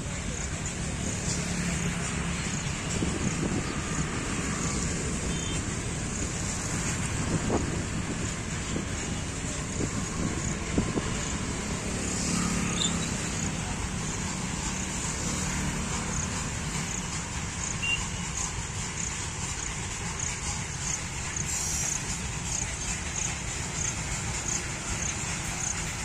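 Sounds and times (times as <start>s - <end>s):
freight wagon wheels rumbling: 0.0s - 26.0s.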